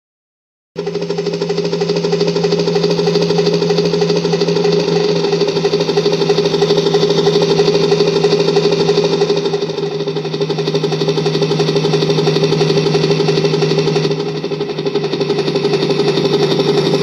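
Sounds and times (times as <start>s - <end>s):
helicopter engine drone: 0.8s - 17.0s
helicopter rotor blades chopping: 0.8s - 17.0s.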